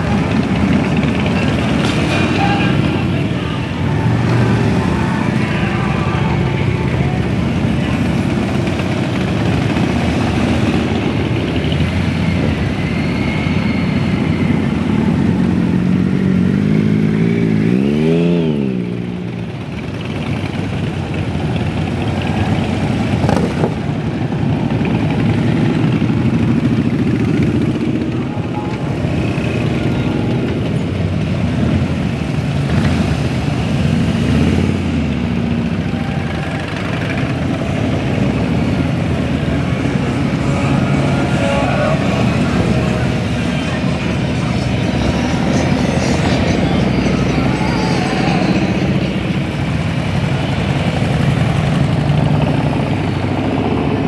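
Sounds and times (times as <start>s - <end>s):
motorcycle engines droning: 0.0s - 54.0s.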